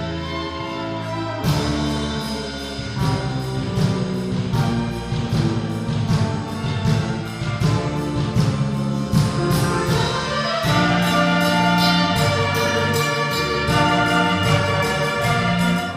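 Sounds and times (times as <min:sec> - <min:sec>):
orchestral music: 0:00.0 - 0:15.9.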